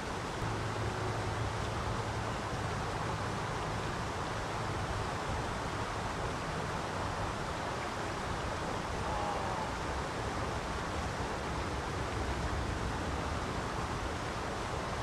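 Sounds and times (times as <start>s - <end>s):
water rushing over dam: 0.0s - 15.0s.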